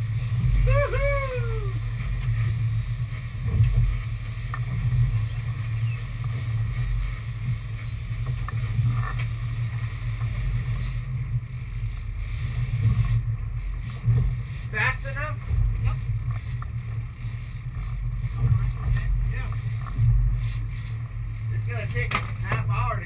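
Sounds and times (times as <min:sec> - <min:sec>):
boat engines droning: 0:00.0 - 0:23.0.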